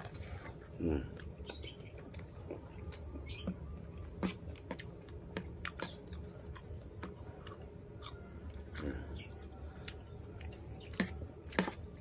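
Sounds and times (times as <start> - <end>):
close chewing: 0.0 - 12.0
low steady hum: 0.0 - 12.0.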